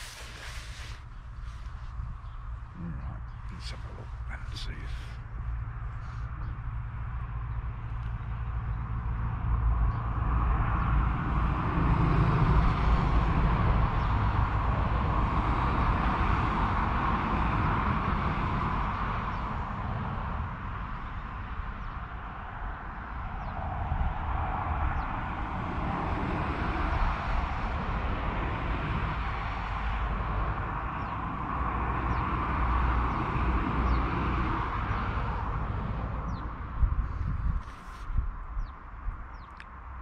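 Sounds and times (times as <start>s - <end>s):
distant road traffic: 0.0s - 40.0s.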